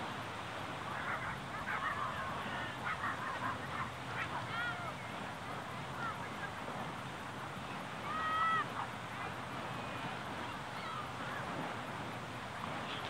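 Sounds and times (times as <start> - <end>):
beach background noise: 0.0 - 13.0
faint distant voices: 0.3 - 13.0.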